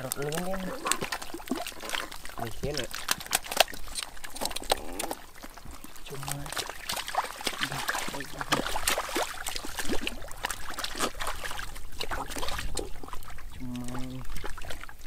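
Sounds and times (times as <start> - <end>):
mud squelching and splashing: 0.0 - 15.0.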